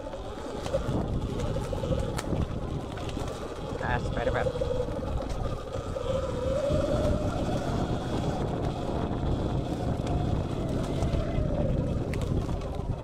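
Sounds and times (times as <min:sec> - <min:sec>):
electric motor whining: 0:00.0 - 0:13.0
tyres on trail: 0:00.0 - 0:13.0
wind rumble on microphone: 0:00.0 - 0:13.0.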